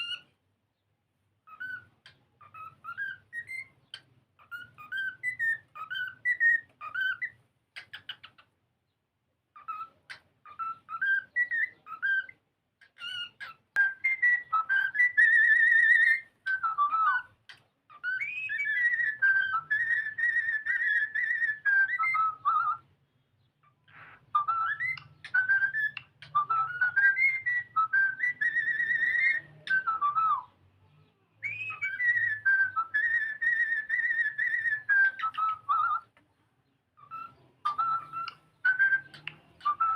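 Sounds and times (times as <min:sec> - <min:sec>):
cockatiel whistling song: 0:00.0 - 0:00.4, 0:01.4 - 0:08.5, 0:09.5 - 0:23.0, 0:23.6 - 0:36.3, 0:36.9 - 0:39.9.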